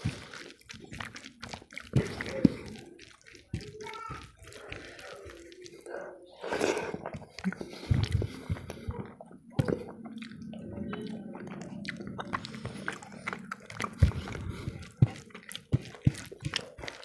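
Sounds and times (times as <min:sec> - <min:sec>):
mouth chewing: 0:00.0 - 0:17.0
wet squishing of food mixed by hand: 0:00.0 - 0:17.0.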